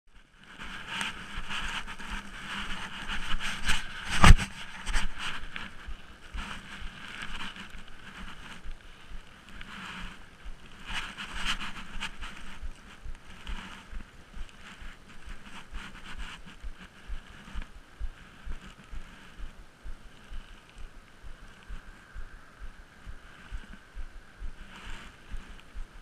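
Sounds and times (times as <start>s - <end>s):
wind gusting over microphone: 0.6s - 26.0s.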